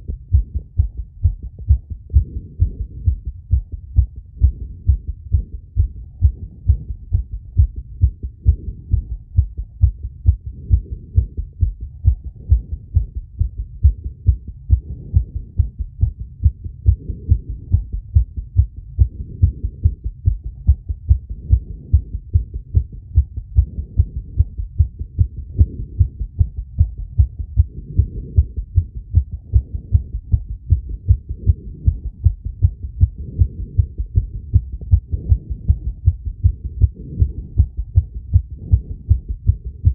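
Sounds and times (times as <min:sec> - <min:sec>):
rapid heartbeat thumps: 0:00.0 - 0:39.9.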